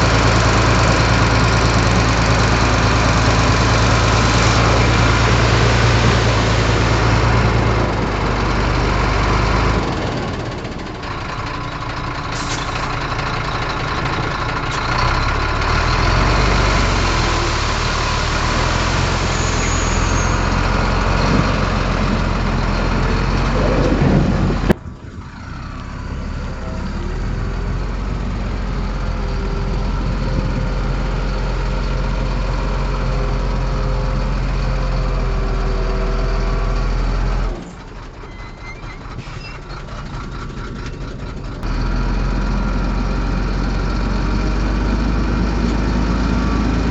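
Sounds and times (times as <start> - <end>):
heavy diesel engines working: 0.0 - 46.9.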